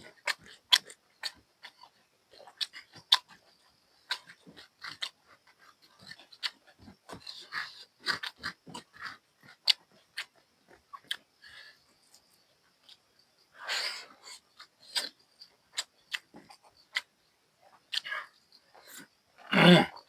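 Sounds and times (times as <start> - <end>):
wet chewing: 0.0 - 13.1, 13.7 - 17.1, 17.7 - 19.5.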